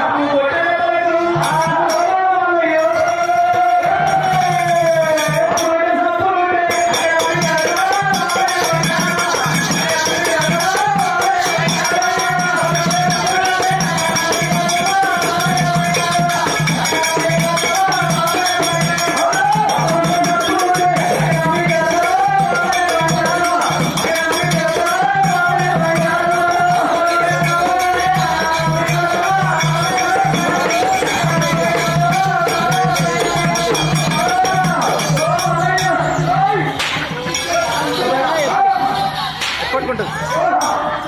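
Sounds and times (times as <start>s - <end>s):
rattling percussion: 0.6s - 41.0s
steady drum beat: 1.3s - 5.8s, 6.6s - 40.9s.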